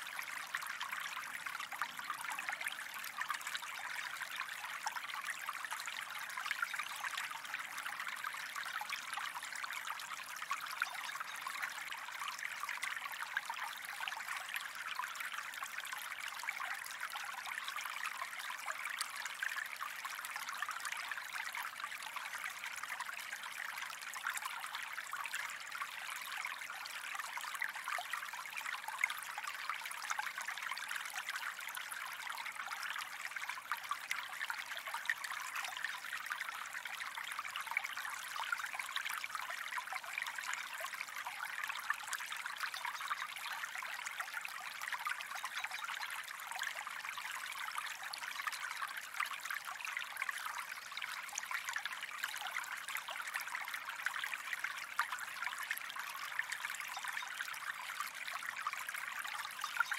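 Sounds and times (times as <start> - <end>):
gentle stream flowing: 0.0 - 59.9.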